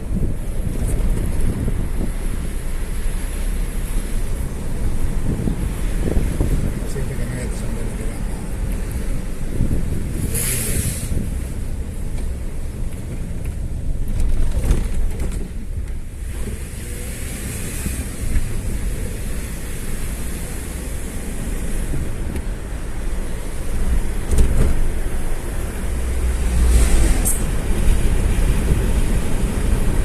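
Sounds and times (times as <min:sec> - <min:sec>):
road vehicle rumble: 0:00.0 - 0:30.0
wind buffeting microphone: 0:00.0 - 0:30.0.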